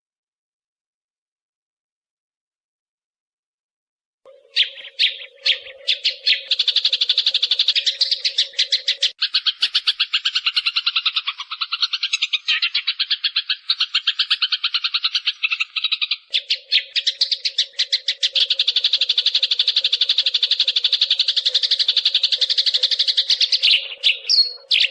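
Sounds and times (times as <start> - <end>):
sparrows chirping rapidly: 4.3 - 24.9.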